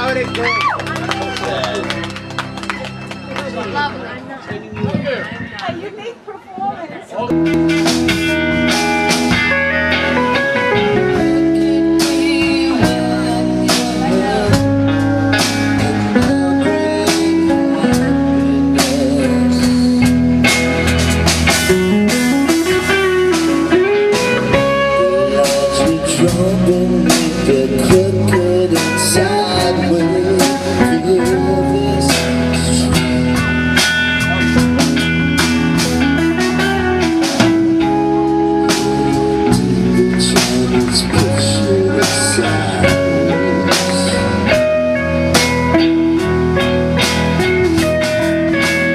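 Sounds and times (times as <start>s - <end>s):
electric guitars: 0.0s - 6.0s, 6.7s - 48.9s
live band playing: 0.0s - 48.9s.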